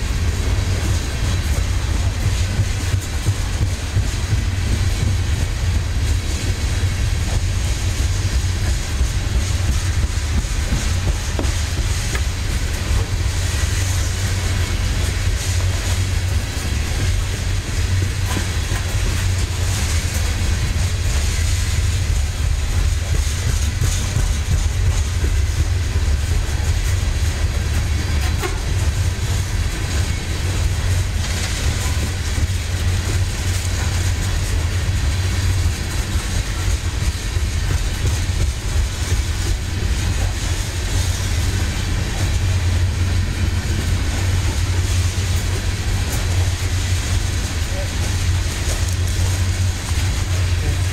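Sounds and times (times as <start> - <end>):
freight train rumbling past: 0.0 - 50.9
wheels clicking on rails: 0.0 - 50.9.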